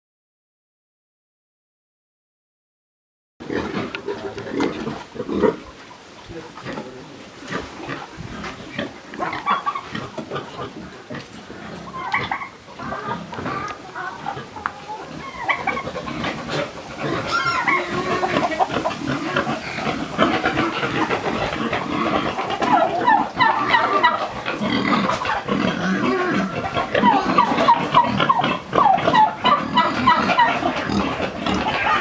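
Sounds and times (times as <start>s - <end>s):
chickens clucking: 3.4s - 32.0s
pigs grunting: 3.4s - 32.0s.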